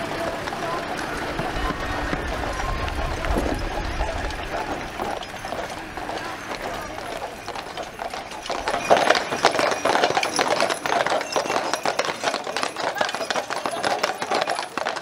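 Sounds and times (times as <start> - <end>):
horse hooves clip-clopping on asphalt: 0.0 - 15.0.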